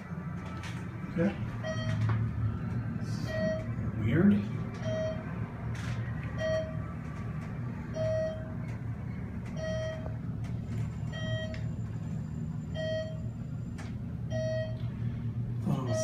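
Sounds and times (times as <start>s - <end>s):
elevator low hum: 0.0s - 16.0s.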